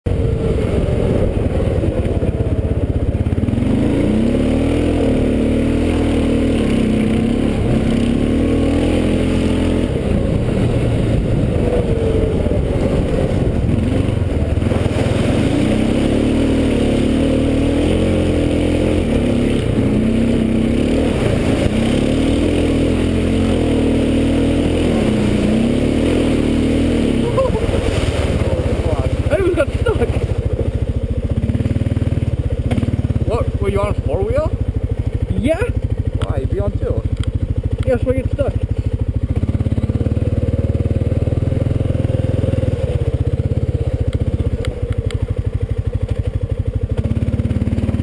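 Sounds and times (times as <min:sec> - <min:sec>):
quad engine revving: 0:00.1 - 0:48.0.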